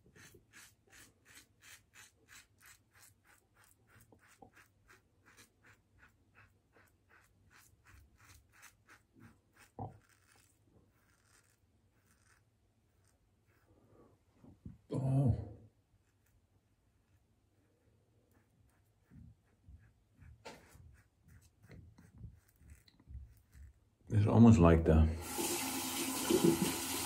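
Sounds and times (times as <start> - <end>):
razor scratching through stubble: 0.0 - 14.0, 15.9 - 24.0.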